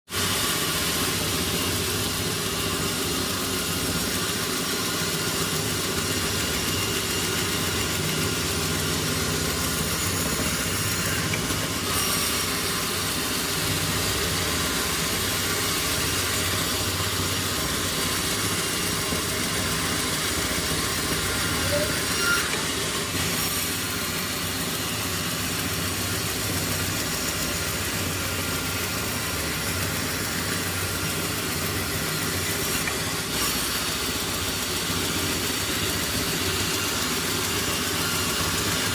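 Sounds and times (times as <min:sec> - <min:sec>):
sawmill machinery humming and hissing: 0:00.1 - 0:38.9.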